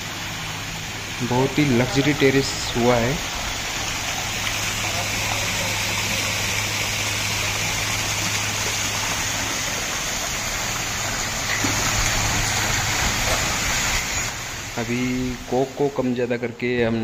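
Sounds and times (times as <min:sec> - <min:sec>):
pump motor hum: 0:00.0 - 0:16.0
fountain water splashing: 0:00.0 - 0:16.2.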